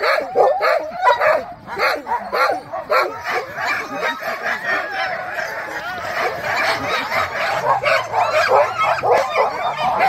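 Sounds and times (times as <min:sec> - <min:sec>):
huskies yelping and howling: 0:00.0 - 0:10.0.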